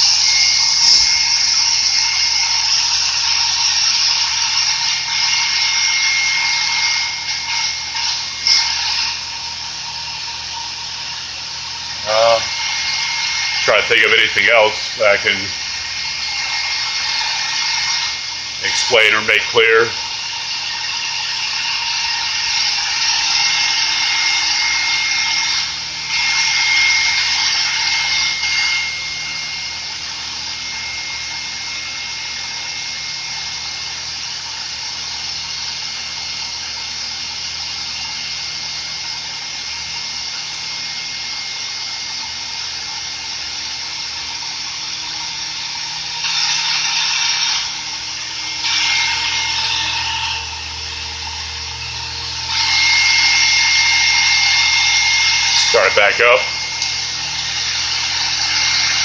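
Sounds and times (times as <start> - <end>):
radiator fan whirring: 0.0 - 59.0.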